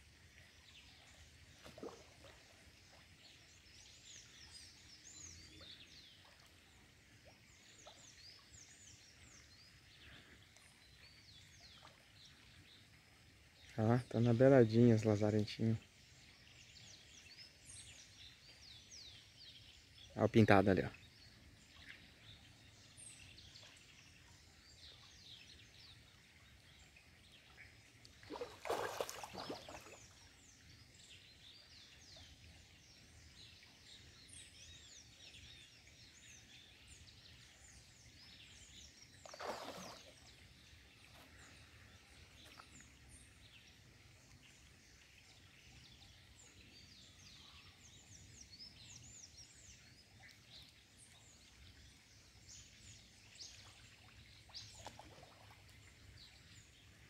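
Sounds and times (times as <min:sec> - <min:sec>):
small birds chirping: 0:00.4 - 0:57.0.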